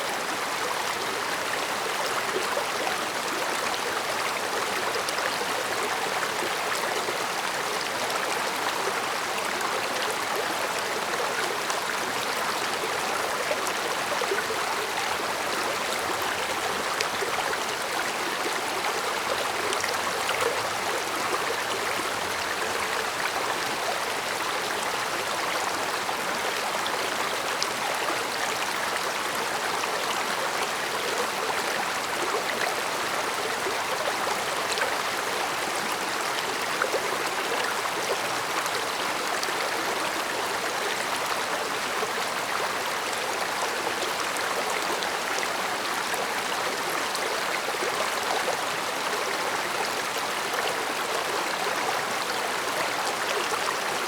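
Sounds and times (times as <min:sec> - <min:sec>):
stream babbling over stones: 0:00.1 - 0:54.0.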